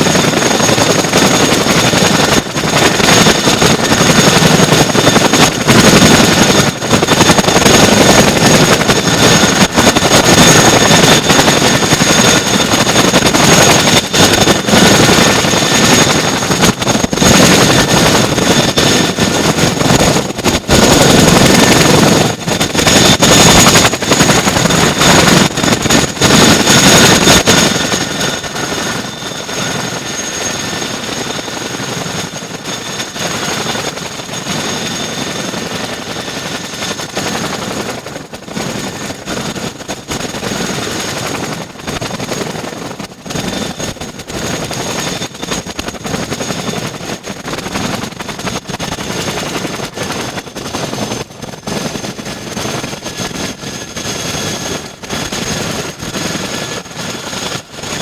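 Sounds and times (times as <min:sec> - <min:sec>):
high turbine whine: 0:00.0 - 0:51.7
helicopter rotor chop: 0:00.0 - 0:58.0.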